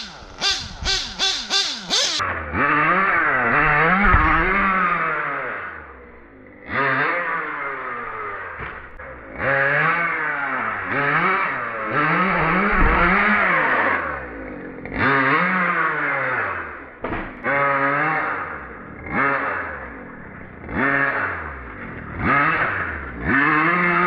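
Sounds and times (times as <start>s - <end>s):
rc car engine revving: 0.0s - 24.0s.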